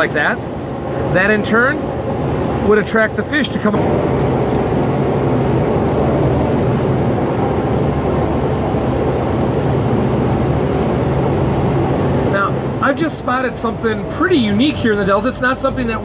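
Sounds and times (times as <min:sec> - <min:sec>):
boat engine drone: 0:00.0 - 0:16.0
rush of boat wake: 0:00.0 - 0:16.0.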